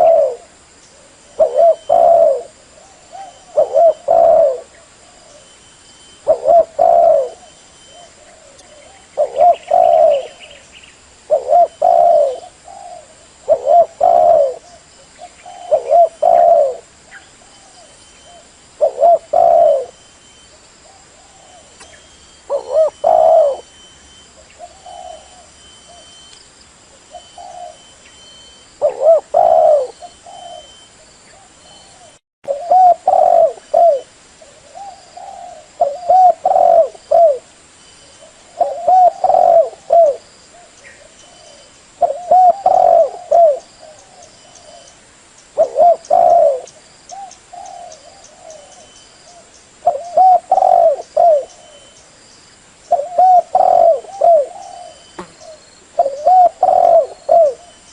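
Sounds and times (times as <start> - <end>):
dove cooing: 0.0 - 5.5, 6.1 - 10.6, 11.2 - 23.8, 24.4 - 26.2, 27.1 - 37.5, 38.1 - 44.9, 45.6 - 52.0, 52.9 - 57.9.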